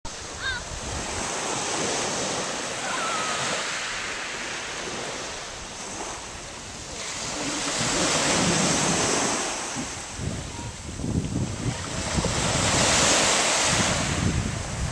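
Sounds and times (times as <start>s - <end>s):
waves breaking on shingle beach: 0.1s - 14.9s
wind buffeting microphone: 0.1s - 14.9s.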